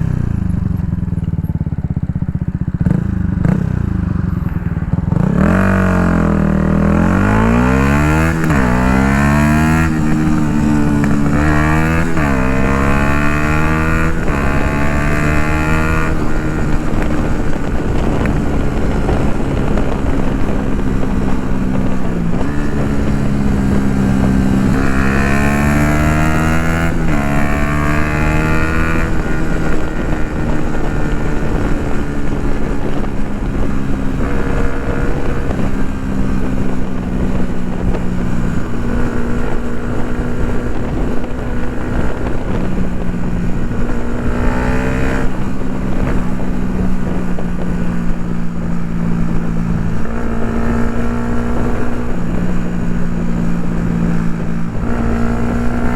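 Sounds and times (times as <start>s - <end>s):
motorcycle engine revving: 0.0s - 55.9s
wind noise on microphone: 2.4s - 55.9s.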